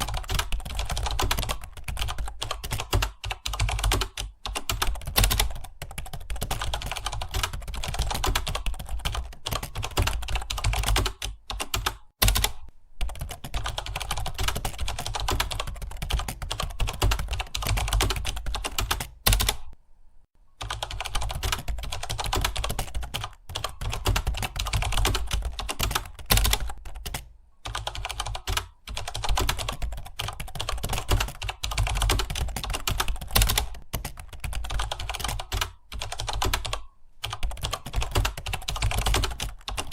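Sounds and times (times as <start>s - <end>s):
typing on computer keyboard: 0.0s - 19.8s, 20.6s - 39.9s.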